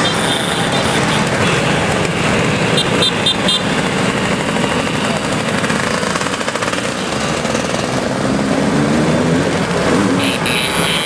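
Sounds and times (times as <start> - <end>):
scooters riding past: 0.6 - 11.0.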